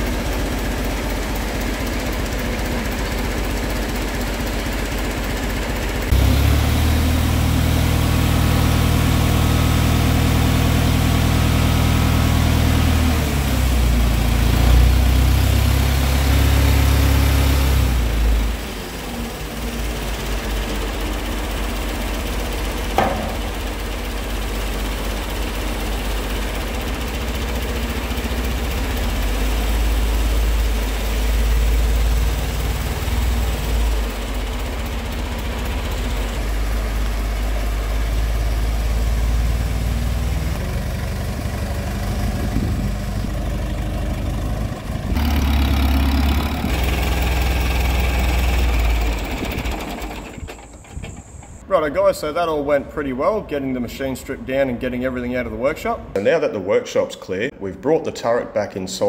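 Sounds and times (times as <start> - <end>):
crane diesel engine running: 0.0 - 51.7.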